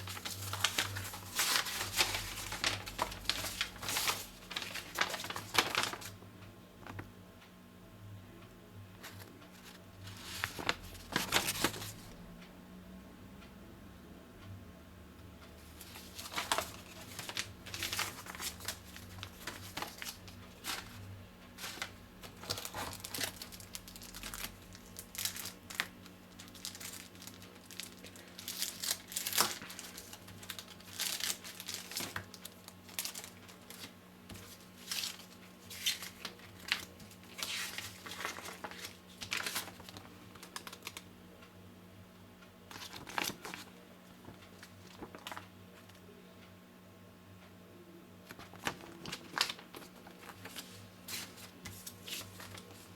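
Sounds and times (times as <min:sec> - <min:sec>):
packaging crinkling and rustling: 0:00.0 - 0:06.2, 0:09.0 - 0:12.2, 0:15.7 - 0:41.0, 0:42.7 - 0:46.0, 0:48.3 - 0:52.9.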